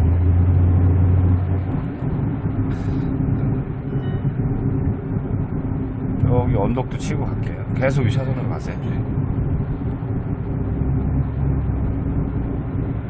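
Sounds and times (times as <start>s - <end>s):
car engine and tyres droning: 0.0s - 13.0s
deep hum: 0.0s - 13.0s.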